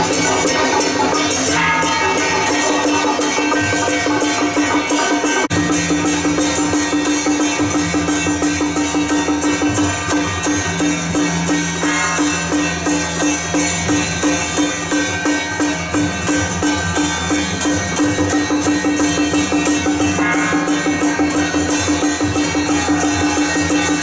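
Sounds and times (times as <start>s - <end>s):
drums and percussion playing: 0.0s - 24.0s.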